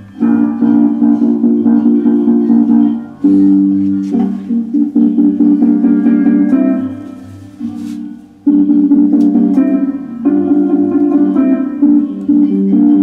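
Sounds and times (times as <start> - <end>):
plucked guitar chords: 0.0 - 13.0.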